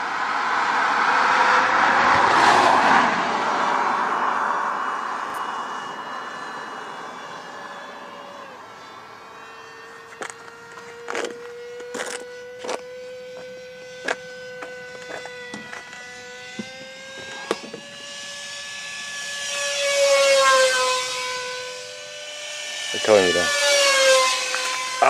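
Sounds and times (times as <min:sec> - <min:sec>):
model jet fan whining: 0:02.8 - 0:25.0.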